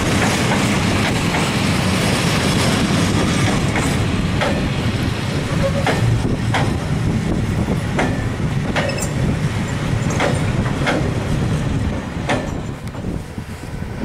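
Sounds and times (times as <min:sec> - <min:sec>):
wheels clacking over rail joints: 0:00.0 - 0:13.2
train wheels rumbling on rail: 0:00.0 - 0:14.0.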